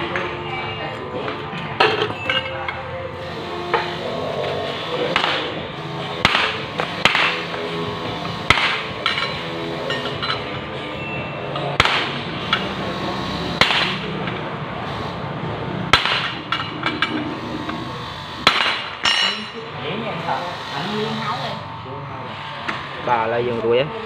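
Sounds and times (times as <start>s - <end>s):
steady low hum: 2.4s - 24.0s.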